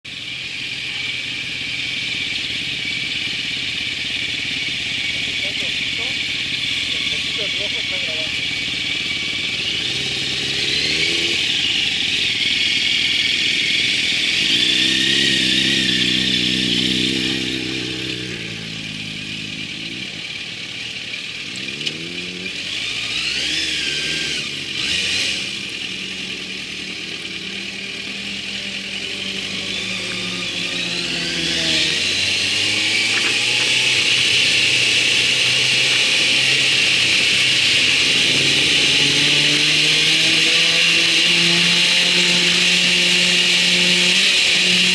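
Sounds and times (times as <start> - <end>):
motorcycle engine accelerating: 0.1 - 44.9.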